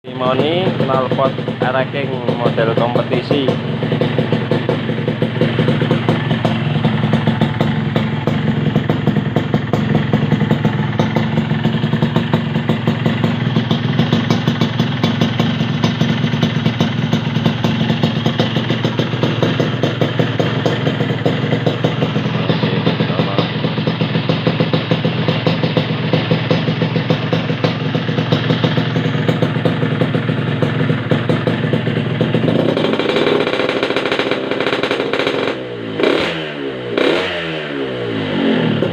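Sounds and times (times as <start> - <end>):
two-stroke motorcycle engine idling: 0.1 - 38.9.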